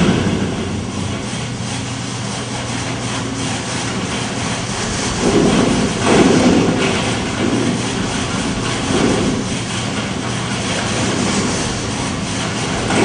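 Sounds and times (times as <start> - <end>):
hydraulic test rig hum: 0.0 - 13.0.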